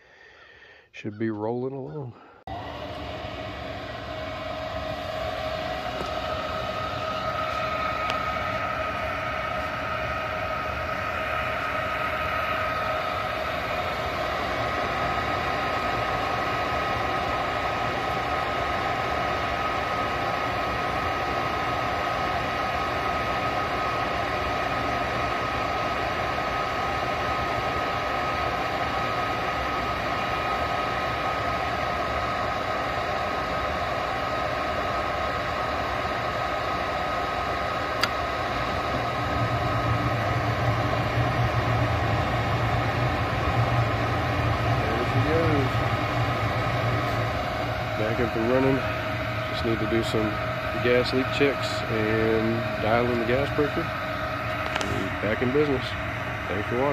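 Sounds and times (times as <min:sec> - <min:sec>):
furnace fan whining: 0:00.0 - 0:56.9.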